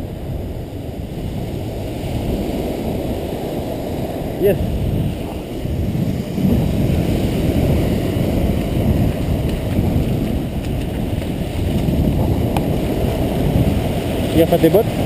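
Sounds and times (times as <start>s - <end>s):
surf washing on sand: 0.0s - 15.0s
wind buffeting microphone: 0.0s - 15.0s.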